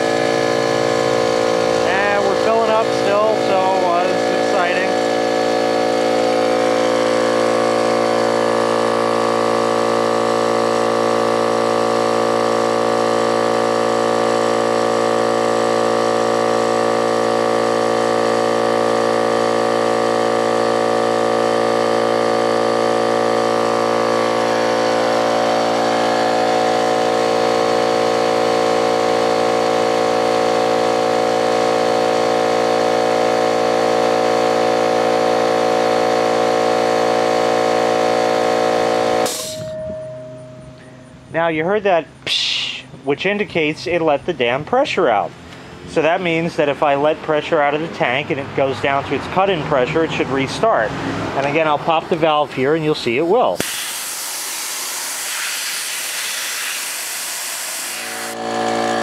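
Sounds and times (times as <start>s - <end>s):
air compressor running: 0.0s - 44.2s, 44.8s - 59.0s.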